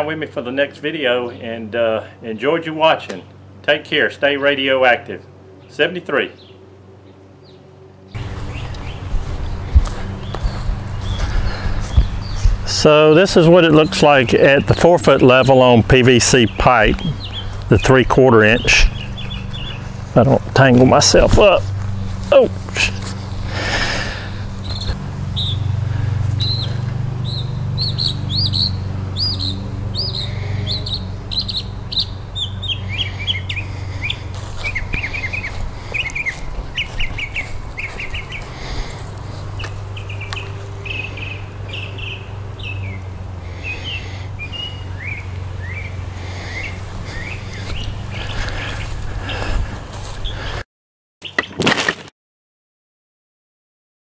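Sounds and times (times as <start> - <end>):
songbirds chirping: 0.0 - 50.6
steady low hum: 2.0 - 50.6.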